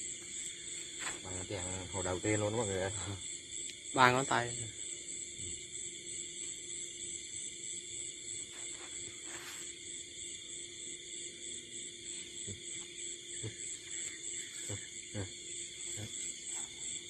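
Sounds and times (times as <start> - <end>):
crickets and insects trilling: 0.0 - 17.0.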